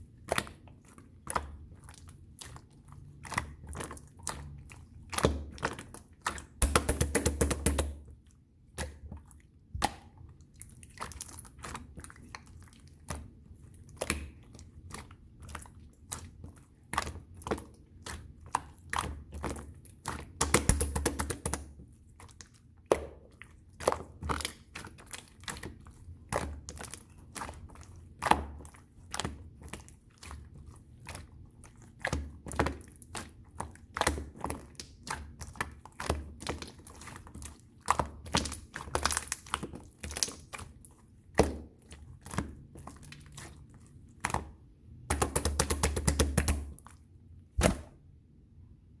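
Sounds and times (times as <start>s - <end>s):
slime squished by hand: 0.2s - 48.1s.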